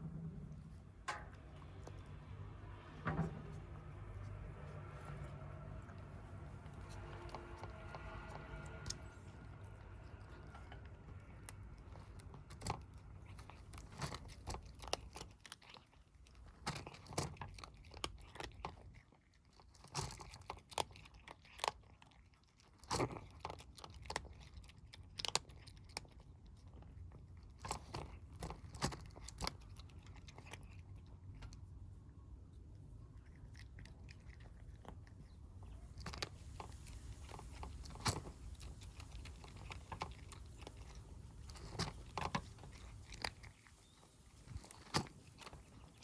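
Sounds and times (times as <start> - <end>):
kittens crunching and chewing food: 0.0 - 46.0.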